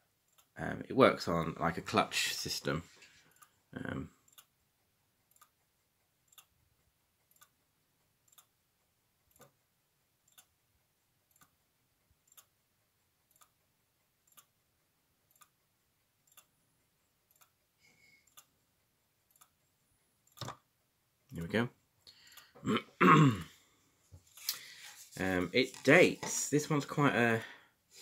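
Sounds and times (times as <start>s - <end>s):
clock ticking softly: 0.0s - 27.9s.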